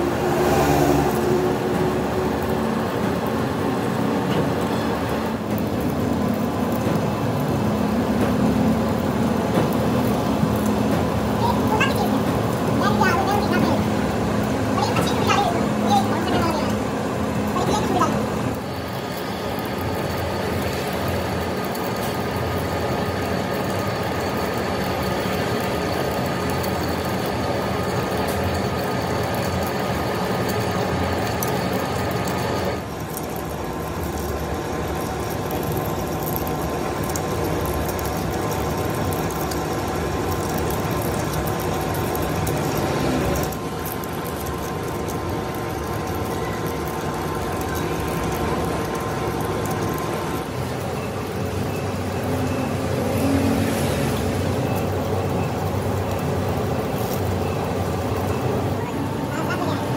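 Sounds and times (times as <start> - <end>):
metalworking lathe running: 0.0 - 53.2, 54.1 - 59.9.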